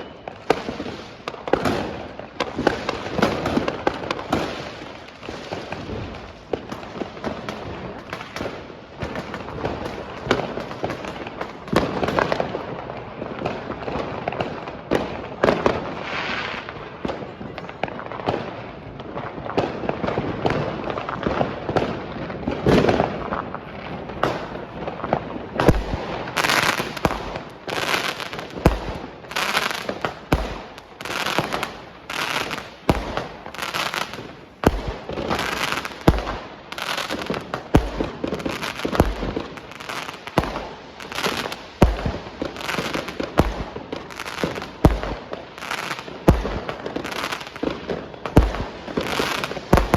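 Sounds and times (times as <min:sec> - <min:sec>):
loud firework bangs: 0:00.0 - 0:12.6, 0:19.6 - 0:49.9
fireworks bangs and crackles: 0:00.0 - 0:49.9.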